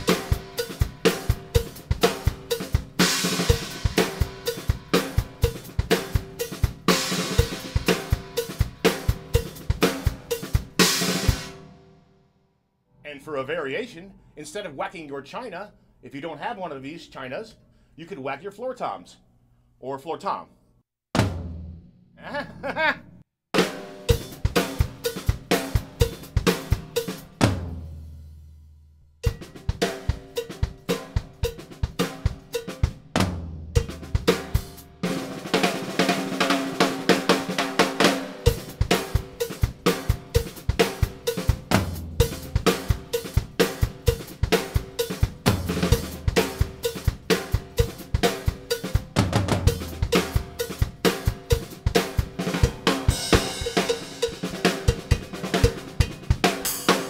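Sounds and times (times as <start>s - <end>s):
drum kit groove: 0.0s - 11.8s, 21.1s - 57.0s.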